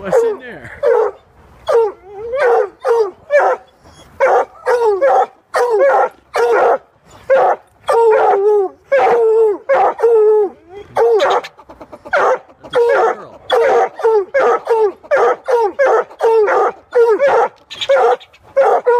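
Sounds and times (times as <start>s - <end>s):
hounds baying: 0.0s - 18.9s.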